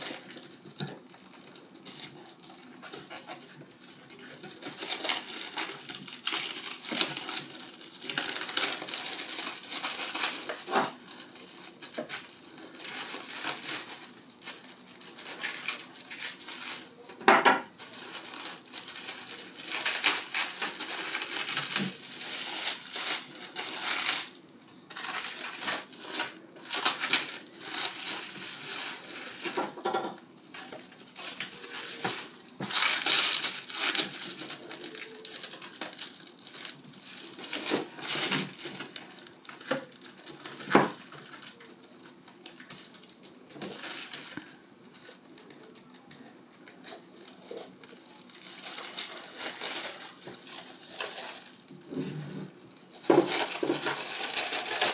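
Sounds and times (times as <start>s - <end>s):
plastic film crinkling: 0.0s - 54.9s.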